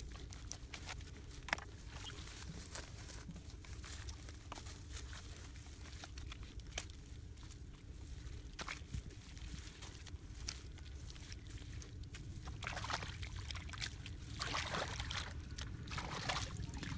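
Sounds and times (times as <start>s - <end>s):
small crackles and crunches: 0.0s - 16.9s.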